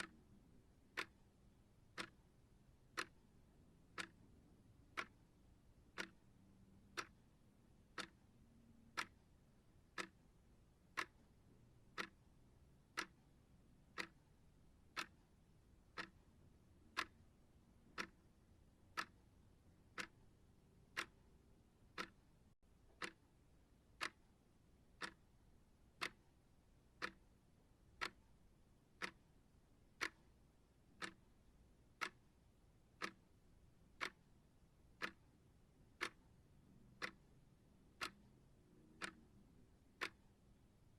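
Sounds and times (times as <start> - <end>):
clock ticking: 0.0 - 40.9.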